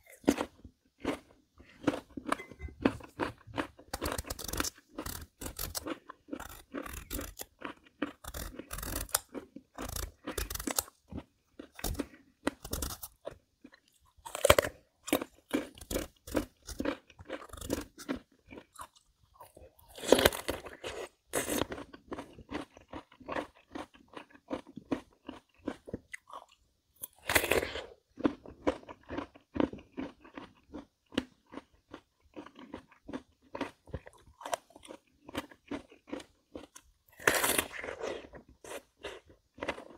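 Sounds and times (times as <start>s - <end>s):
crunchy chewing of melon: 0.0s - 39.9s.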